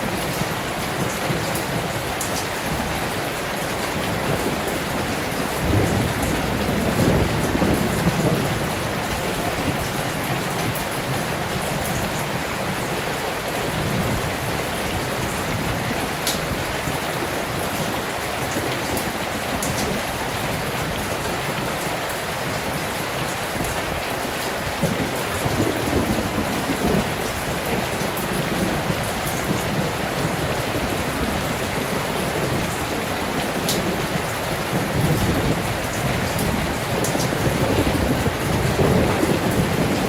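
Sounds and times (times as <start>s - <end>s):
heavy rain heard from indoors: 0.0s - 40.0s
wind: 0.0s - 40.0s.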